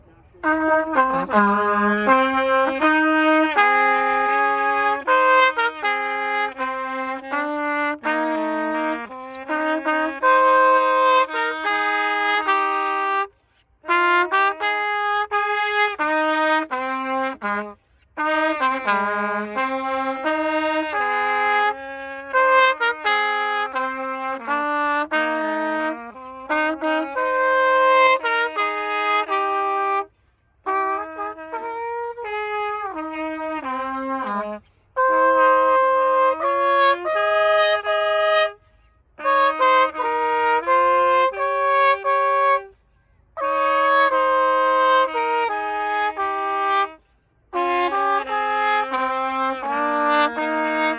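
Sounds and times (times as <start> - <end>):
wind instrument duet: 0.0 - 50.9.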